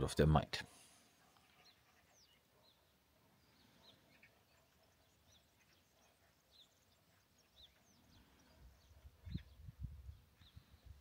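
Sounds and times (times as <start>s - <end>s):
small birds chirping faintly: 0.0s - 11.0s.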